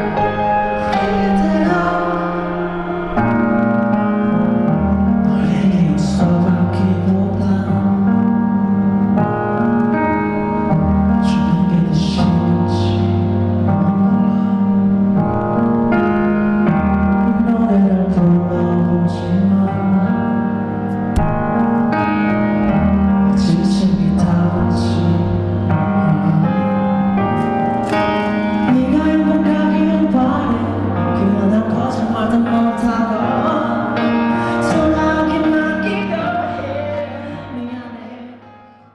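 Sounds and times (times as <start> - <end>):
person singing: 0.0 - 15.0, 16.2 - 21.3, 21.9 - 38.9
piano: 0.0 - 38.9.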